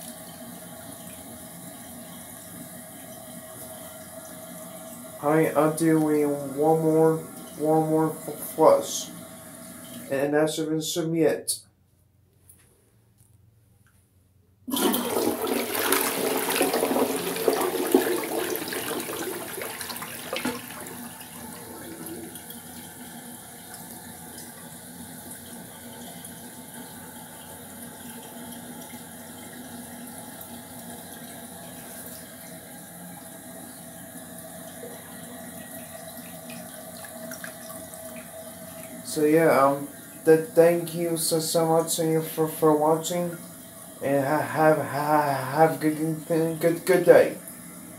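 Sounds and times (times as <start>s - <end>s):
water running as cistern refills: 0.0s - 10.3s, 14.7s - 47.9s
toilet flushing: 0.0s - 10.6s, 14.7s - 47.9s.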